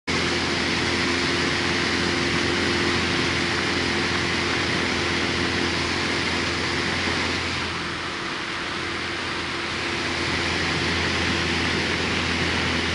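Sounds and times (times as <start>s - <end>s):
light aircraft engine droning: 0.1s - 12.9s
rush of air: 0.1s - 12.9s.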